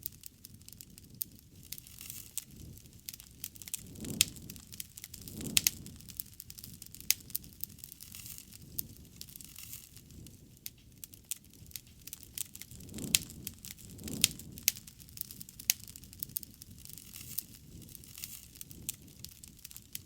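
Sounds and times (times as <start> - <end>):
bonfire crackling and popping: 0.0 - 20.0
low rumble of flame: 0.0 - 20.0.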